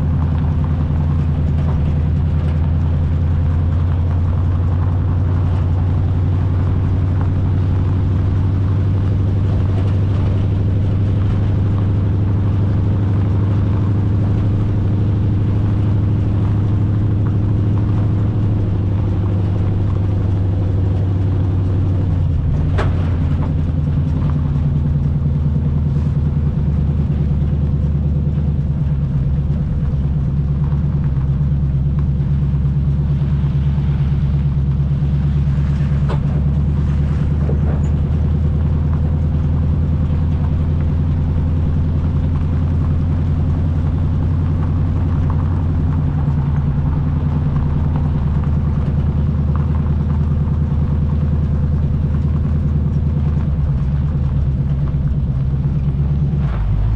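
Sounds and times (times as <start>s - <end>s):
truck engine drone: 0.0s - 56.9s.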